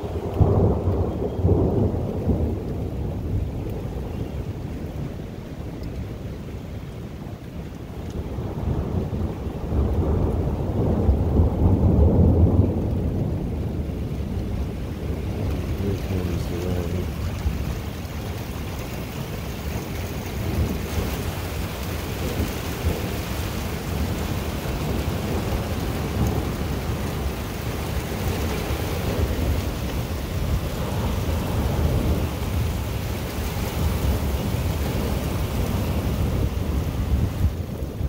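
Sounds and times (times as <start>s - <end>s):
low thunder rumbling: 0.0s - 38.0s
wind and rain rushing: 0.0s - 38.0s.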